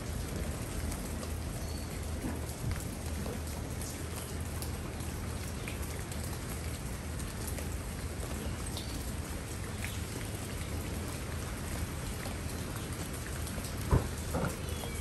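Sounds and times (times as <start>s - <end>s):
rain pattering on plants: 0.0s - 15.0s.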